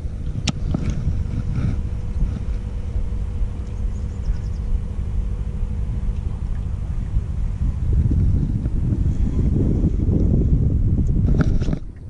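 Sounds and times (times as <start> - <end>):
faint steady hum: 0.0 - 12.0
wind buffeting microphone: 0.0 - 12.0.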